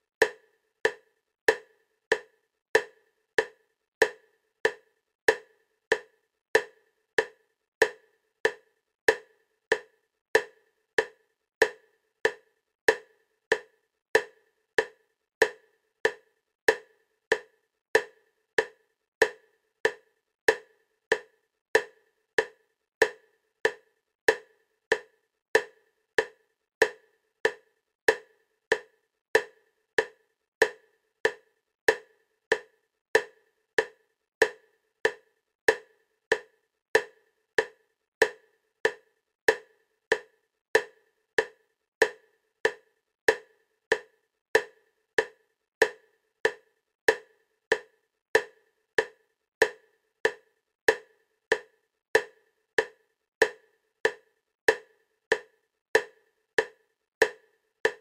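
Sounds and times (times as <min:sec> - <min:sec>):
wood-block-like clicks: 0:00.2 - 0:58.0.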